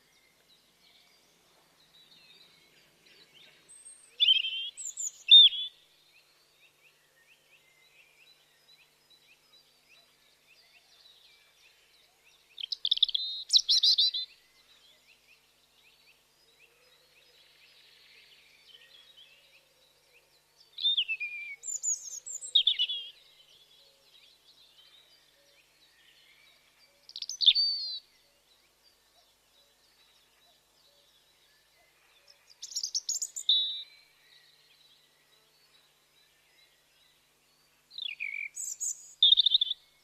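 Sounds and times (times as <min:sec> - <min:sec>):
faint bird chirps: 0:00.0 - 0:40.0.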